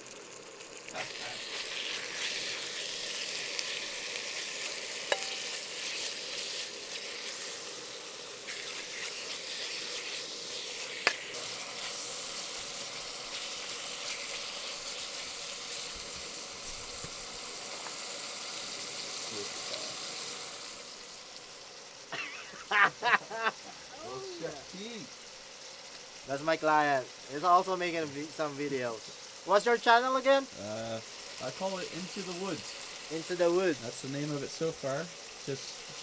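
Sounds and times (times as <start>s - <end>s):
food sizzling in oil: 0.0s - 36.0s.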